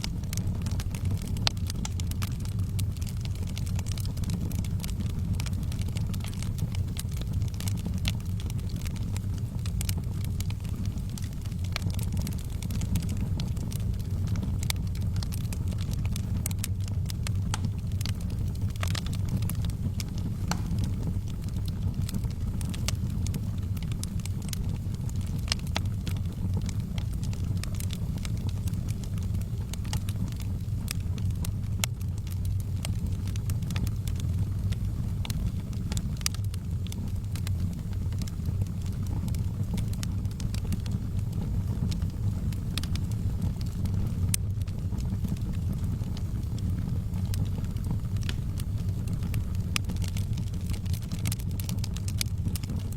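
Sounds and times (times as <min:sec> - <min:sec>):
loud pops from fire: 0:00.0 - 0:52.9
low rumble of flame: 0:00.0 - 0:52.9
wood fire crackling: 0:00.0 - 0:52.9.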